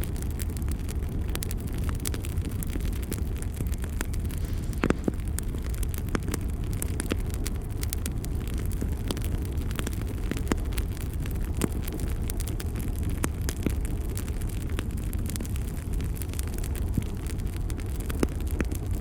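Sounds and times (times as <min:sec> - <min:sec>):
burning wood crackling and popping: 0:00.0 - 0:19.0
campfire low rushing: 0:00.0 - 0:19.0.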